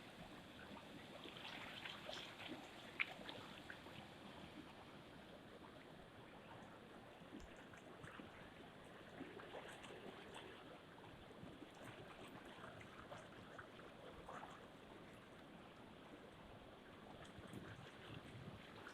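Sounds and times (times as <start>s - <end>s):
faint moving water: 0.0s - 18.9s
water splashes and drips: 0.2s - 4.8s, 6.5s - 18.9s.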